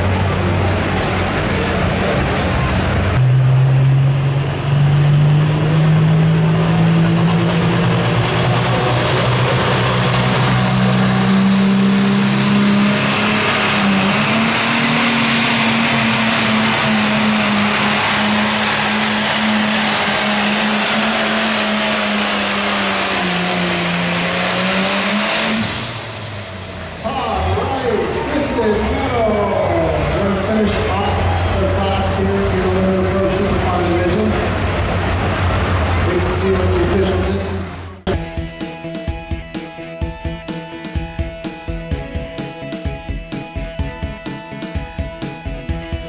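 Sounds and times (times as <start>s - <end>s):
diesel tractor engine under load: 0.0s - 38.3s.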